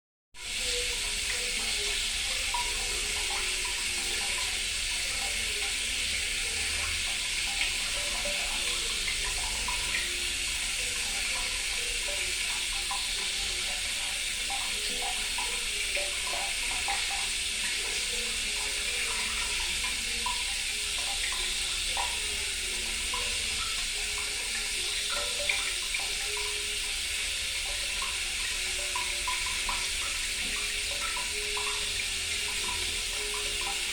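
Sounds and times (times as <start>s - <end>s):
water bubbling and gurgling: 0.4s - 33.9s
water running from a tap: 0.4s - 33.9s.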